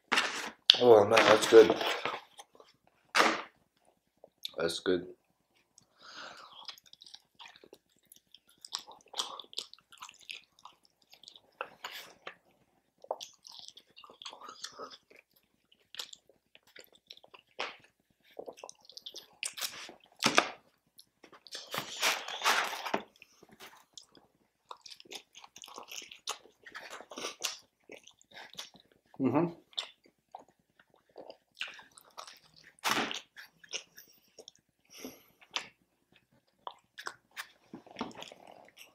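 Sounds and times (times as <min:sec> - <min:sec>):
person chewing and crunching food: 0:00.0 - 0:04.6, 0:05.2 - 0:38.9.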